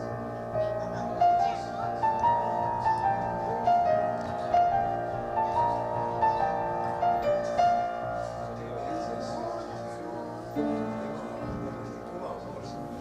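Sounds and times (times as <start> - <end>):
melody of held notes: 0.0 - 13.0.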